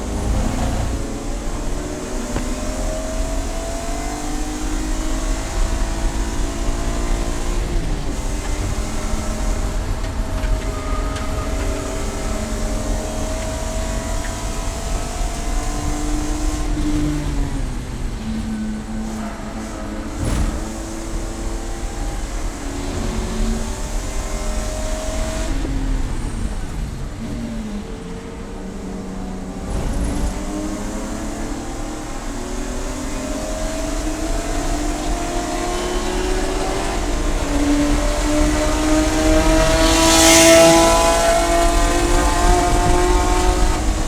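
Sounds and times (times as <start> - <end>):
race car engine accelerating: 0.0 - 44.0.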